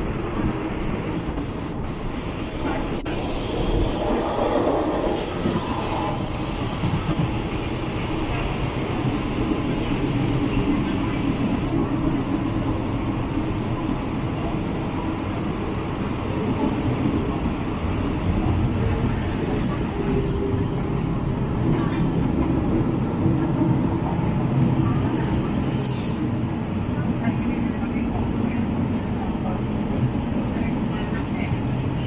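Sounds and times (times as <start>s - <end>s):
moving train rumble: 0.0s - 32.0s.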